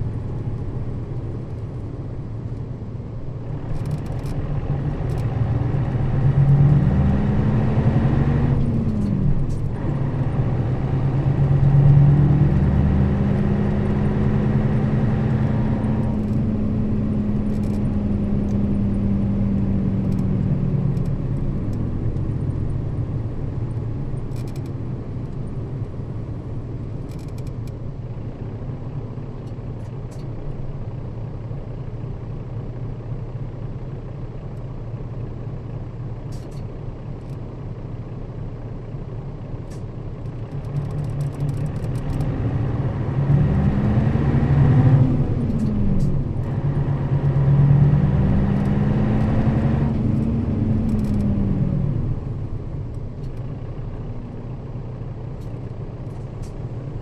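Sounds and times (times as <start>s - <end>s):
bus diesel engine from inside: 0.0s - 57.0s.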